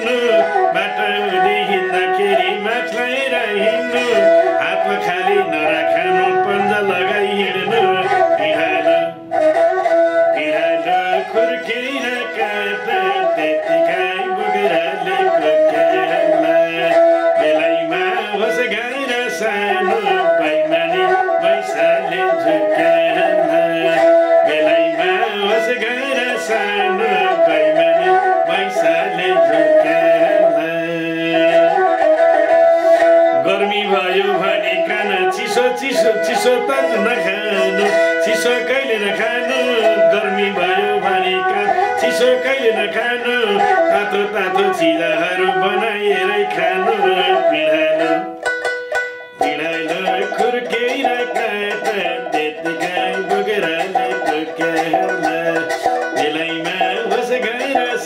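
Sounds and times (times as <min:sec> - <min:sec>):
bowed fiddle melody: 0:00.0 - 0:58.0
person singing: 0:00.0 - 0:58.0.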